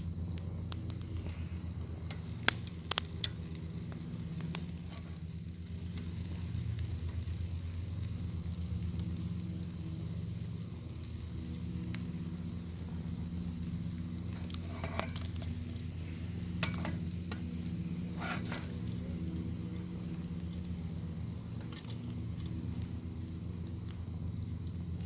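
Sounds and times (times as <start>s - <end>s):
bacon sizzling in a pan: 0.0s - 25.0s
fire crackling: 0.0s - 25.0s
low hum: 0.0s - 25.0s.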